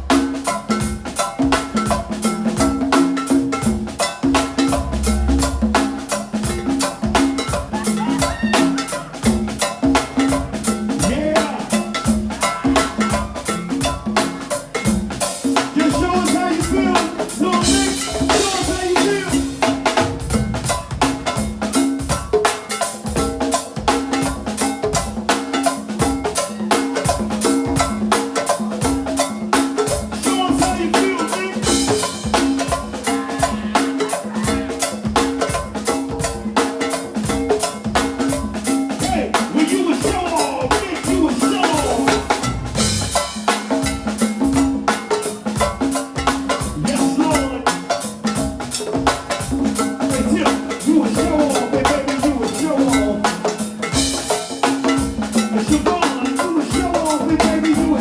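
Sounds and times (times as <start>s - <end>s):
music with fast drum beat: 0.0s - 58.0s.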